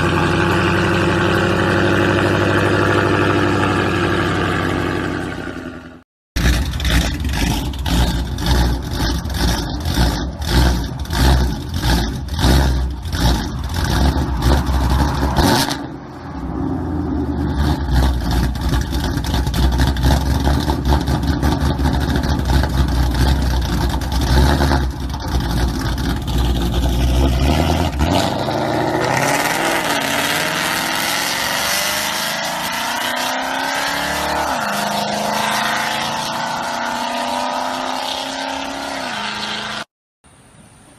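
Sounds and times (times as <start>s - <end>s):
car engine revving and rumbling: 0.0s - 39.9s.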